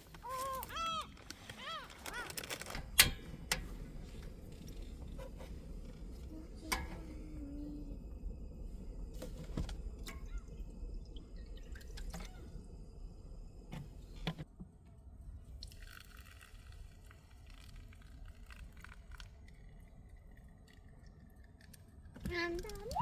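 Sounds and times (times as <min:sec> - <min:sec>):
small liquid sounds: 0:00.0 - 0:14.4, 0:15.4 - 0:23.0
low steady rumble: 0:00.0 - 0:23.0.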